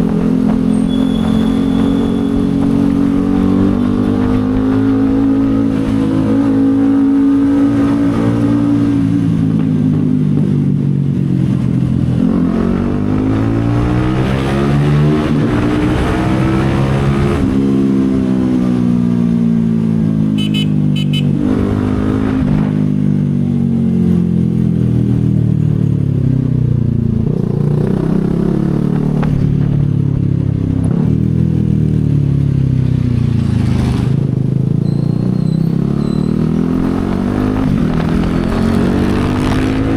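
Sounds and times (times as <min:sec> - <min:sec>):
motorcycle engine revving: 0:00.0 - 0:10.4, 0:11.0 - 0:25.2, 0:27.1 - 0:39.9.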